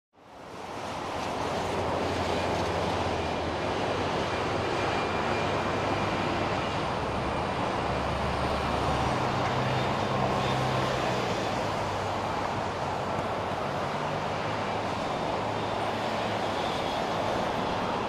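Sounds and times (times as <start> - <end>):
electric train hum: 0.6 - 18.0
train rumbling: 0.7 - 18.0.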